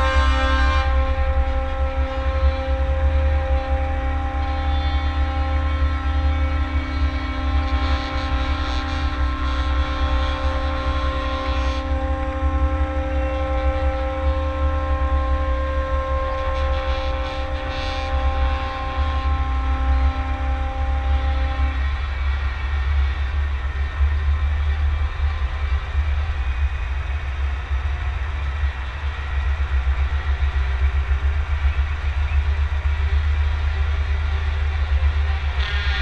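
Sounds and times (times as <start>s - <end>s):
horn-like tone: 0.0s - 36.0s
truck engine rumbling: 0.0s - 36.0s.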